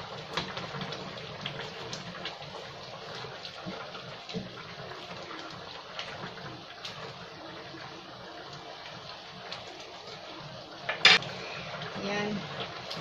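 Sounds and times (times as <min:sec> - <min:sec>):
sauce bubbling in frying pan: 0:00.0 - 0:13.0.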